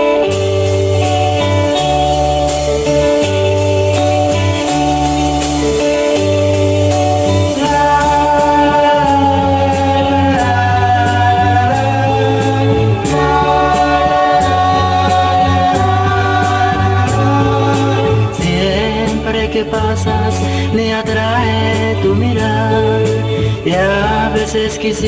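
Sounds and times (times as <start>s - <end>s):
held melody notes: 0.0s - 24.7s
stepping bass line: 0.0s - 25.0s.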